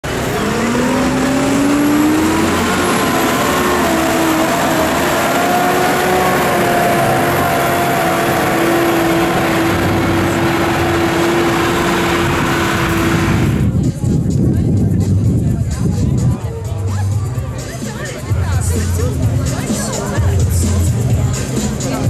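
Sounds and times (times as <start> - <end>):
tractor diesel engines pulling: 0.0 - 22.0.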